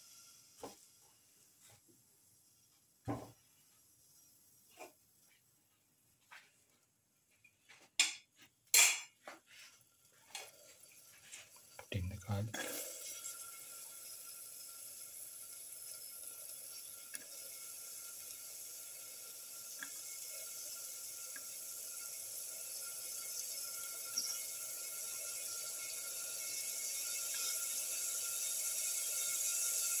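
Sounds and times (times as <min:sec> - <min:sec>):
garlic sizzling in hot oil: 0:00.0 - 0:05.4, 0:08.7 - 0:30.0.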